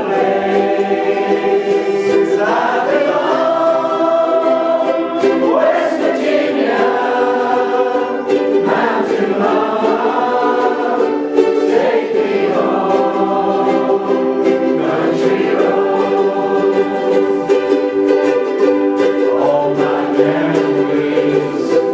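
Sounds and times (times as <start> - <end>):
ukuleles strumming: 0.0 - 21.9
voices singing in chorus: 0.0 - 21.9.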